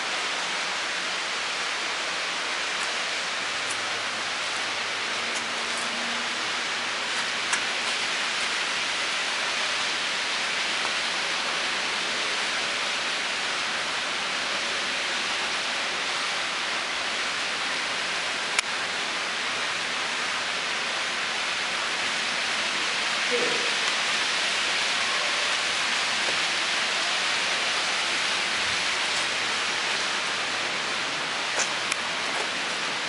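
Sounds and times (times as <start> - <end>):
steady rushing hiss: 0.0 - 33.0.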